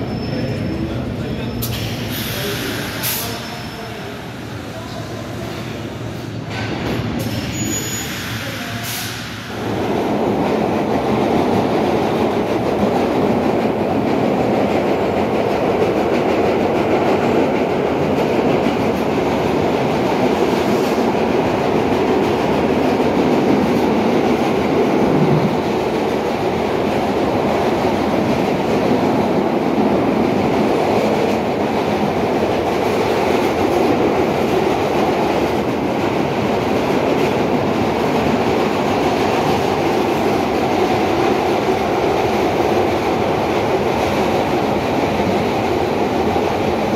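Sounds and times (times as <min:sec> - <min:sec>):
subway car wheels rumbling: 0:00.0 - 0:46.9.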